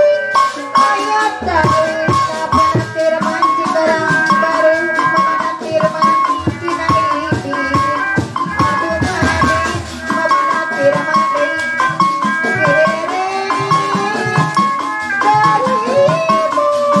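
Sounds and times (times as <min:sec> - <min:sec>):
ringing metallophone notes: 0:00.0 - 0:17.0
hand drums beating: 0:00.7 - 0:17.0.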